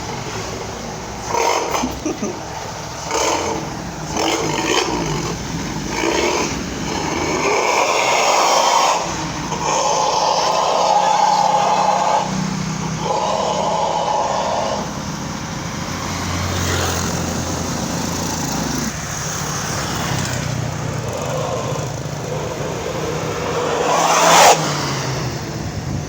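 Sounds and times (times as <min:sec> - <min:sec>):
vehicle engine running rough: 0:00.0 - 0:26.0.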